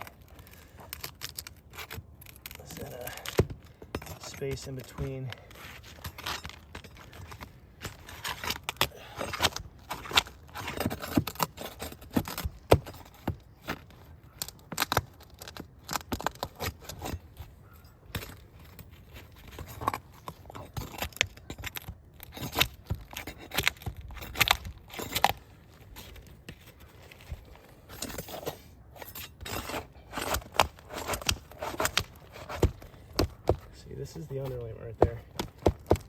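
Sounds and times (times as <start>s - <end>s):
roof shingle scraping and crackling: 0.0s - 36.0s.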